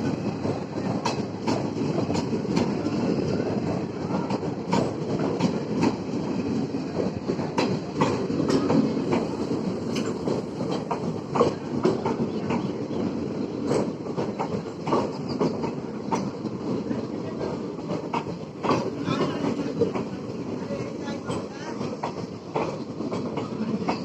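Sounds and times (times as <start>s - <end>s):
train coaches rumbling: 0.0s - 24.0s
wheels clacking over rail joints: 0.0s - 24.0s.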